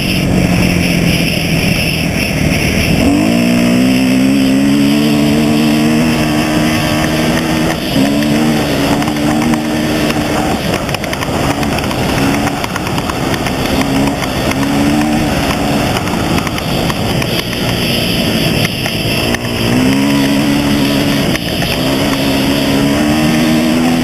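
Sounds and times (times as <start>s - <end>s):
off-road vehicle engine: 0.0s - 24.0s
wind and road noise: 0.0s - 24.0s.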